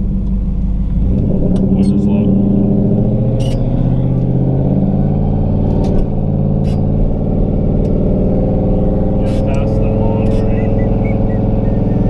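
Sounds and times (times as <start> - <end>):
car engine cruising from inside: 0.0 - 12.0.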